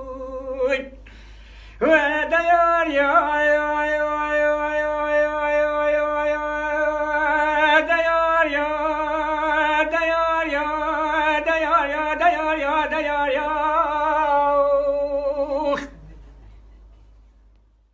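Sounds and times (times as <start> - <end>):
man singing unaccompanied: 0.0 - 1.0, 1.8 - 16.1.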